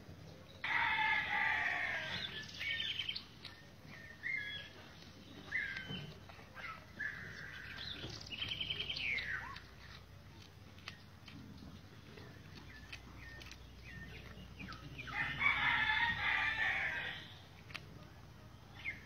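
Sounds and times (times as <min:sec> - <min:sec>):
birds chirping and trilling: 0:00.2 - 0:10.0, 0:10.8 - 0:17.8, 0:18.5 - 0:19.0.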